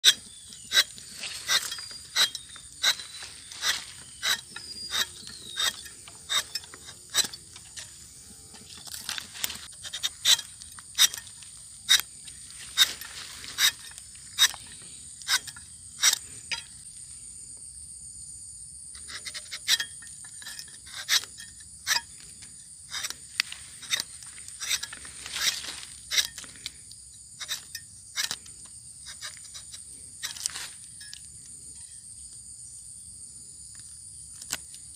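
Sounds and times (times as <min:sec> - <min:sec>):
knife scraping tree bark: 0:00.0 - 0:17.0, 0:18.9 - 0:32.6, 0:33.7 - 0:34.9.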